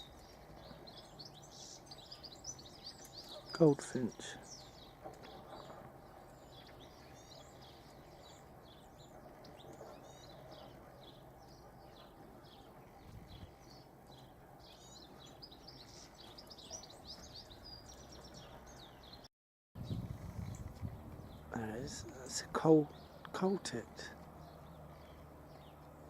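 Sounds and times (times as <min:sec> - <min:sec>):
small songbirds chirping: 0:00.0 - 0:26.0.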